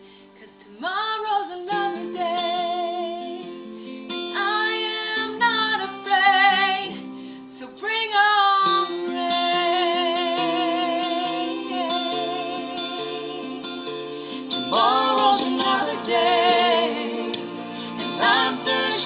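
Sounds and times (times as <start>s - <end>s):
woman singing with vibrato: 0.4s - 3.4s, 4.4s - 7.0s, 7.6s - 19.0s
strummed acoustic guitar: 1.7s - 7.6s, 8.5s - 19.0s.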